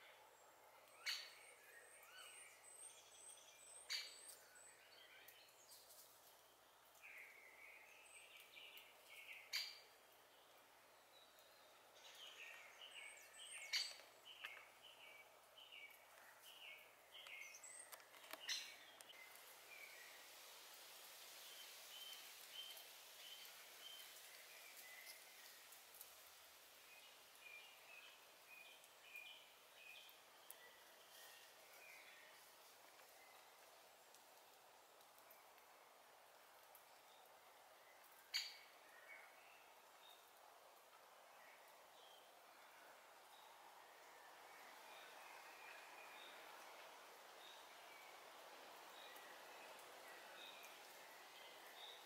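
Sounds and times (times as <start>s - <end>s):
songbirds singing: 0.0s - 52.0s.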